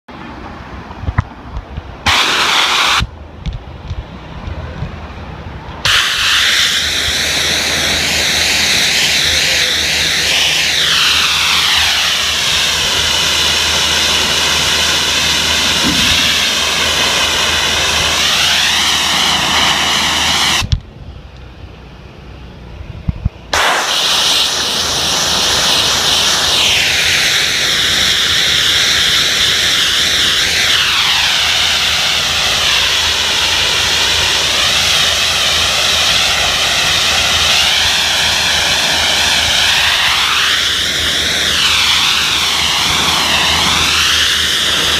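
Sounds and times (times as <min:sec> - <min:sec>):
low hum: 0:00.1 - 0:28.7, 0:29.6 - 0:44.9
machine hissing pressurised jet: 0:02.0 - 0:03.1, 0:05.8 - 0:20.7, 0:23.5 - 0:44.9
whine sliding in pitch: 0:04.4 - 0:44.9.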